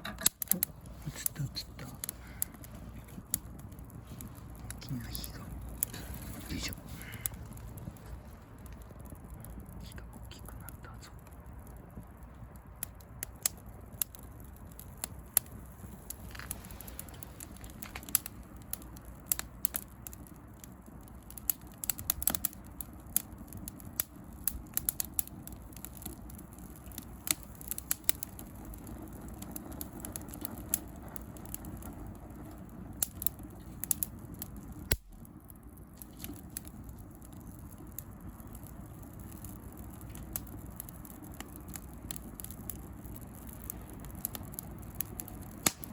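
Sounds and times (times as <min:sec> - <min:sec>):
bonfire crackling and popping: 0:00.0 - 0:45.9.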